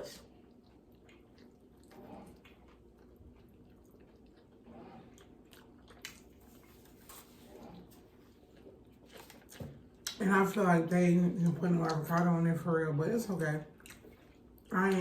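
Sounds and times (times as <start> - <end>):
person chewing: 0.0 - 10.7, 13.6 - 15.0.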